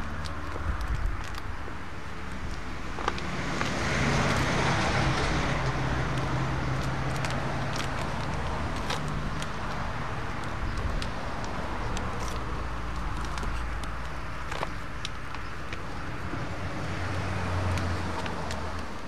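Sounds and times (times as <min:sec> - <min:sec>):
dried skin crackling: 0:00.0 - 0:19.0
low vehicle hum: 0:00.0 - 0:19.0.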